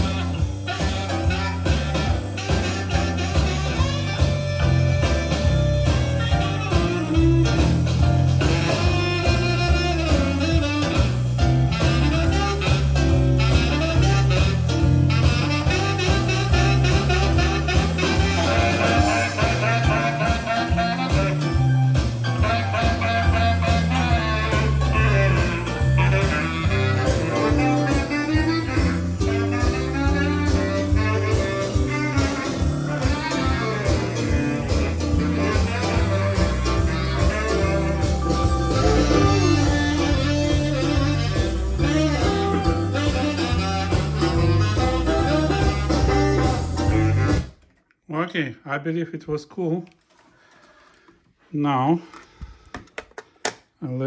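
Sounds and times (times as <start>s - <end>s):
blues music with guitar and brass: 0.0s - 47.6s.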